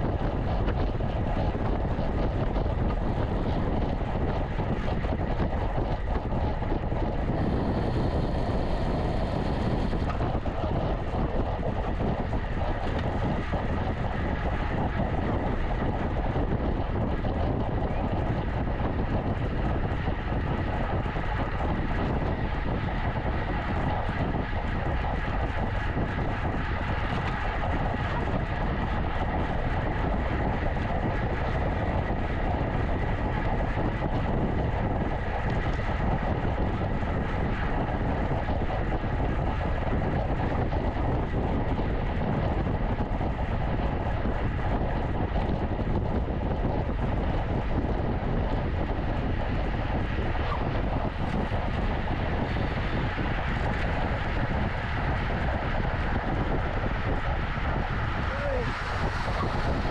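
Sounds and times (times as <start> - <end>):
wind rushing on microphone: 0.0 - 59.9.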